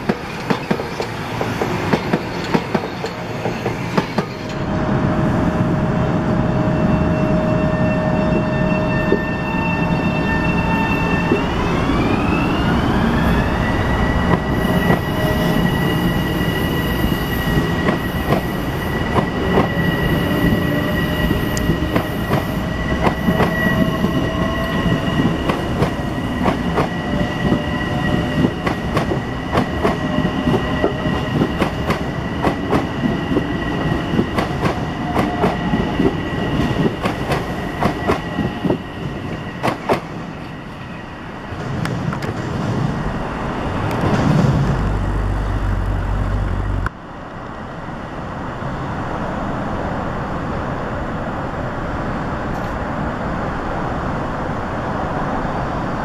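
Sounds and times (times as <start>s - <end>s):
rumble of train cars: 0.0s - 56.0s.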